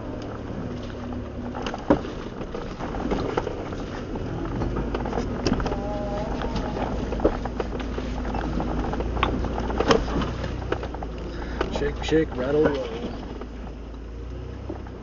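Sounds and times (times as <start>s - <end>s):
body and suspension rattling: 0.0s - 15.0s
low engine drone: 0.0s - 15.0s.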